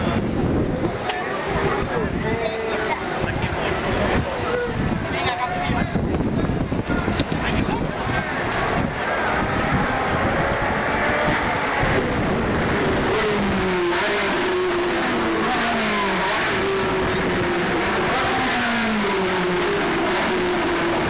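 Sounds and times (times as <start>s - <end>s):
cars on the track: 0.0s - 21.0s
race car engines accelerating: 0.0s - 21.0s.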